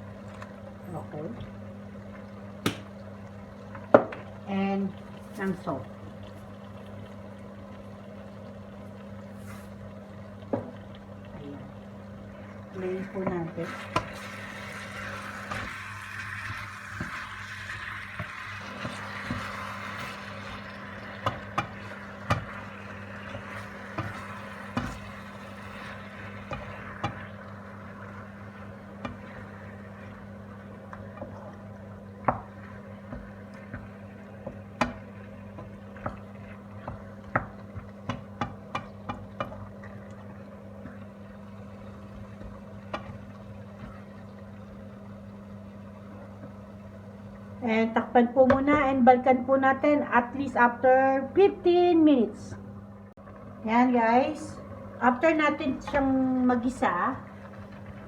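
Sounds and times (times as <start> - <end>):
chicken sizzling in a pan: 0.0 - 47.6.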